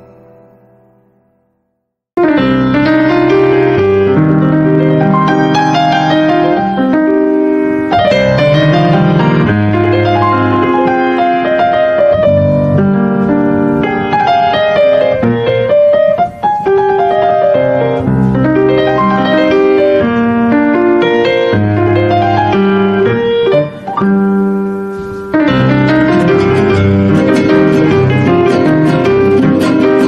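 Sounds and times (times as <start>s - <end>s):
slow keyboard melody: 0.0s - 30.0s.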